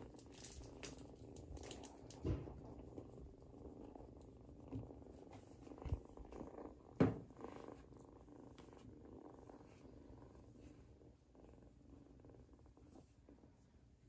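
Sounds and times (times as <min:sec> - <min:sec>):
kittens purring: 0:00.0 - 0:14.0.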